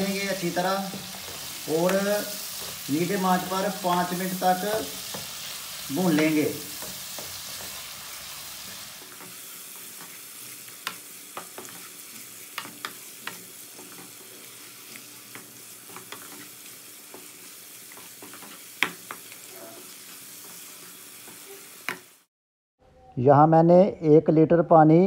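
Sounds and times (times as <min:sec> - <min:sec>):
meat sizzling in a pan: 0:00.0 - 0:22.3
spatula tapping and scraping pan: 0:00.8 - 0:08.0, 0:08.6 - 0:22.1.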